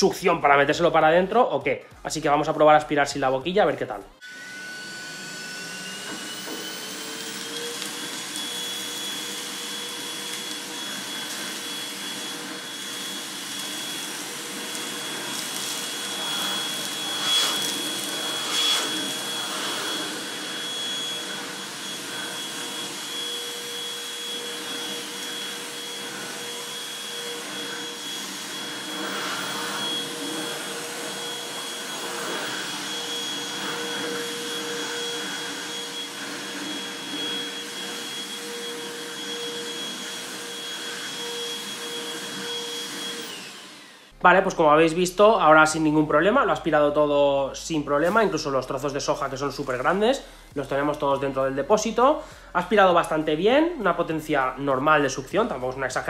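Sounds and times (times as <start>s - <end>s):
handheld vacuum whining: 4.2s - 45.4s, 46.2s - 53.2s.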